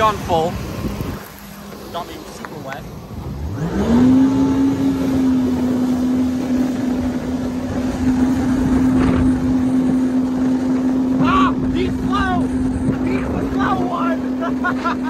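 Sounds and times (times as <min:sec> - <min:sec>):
jet ski engine at full throttle: 0:00.0 - 0:15.0
spray and wind on microphone: 0:00.0 - 0:15.0.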